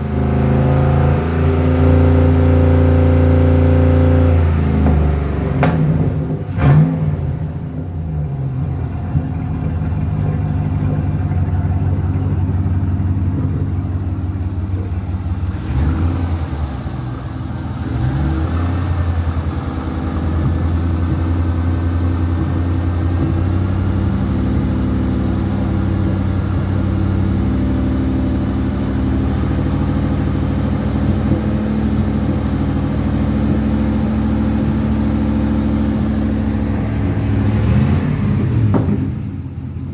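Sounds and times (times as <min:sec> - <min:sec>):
pickup truck engine revving: 0:00.0 - 0:39.9.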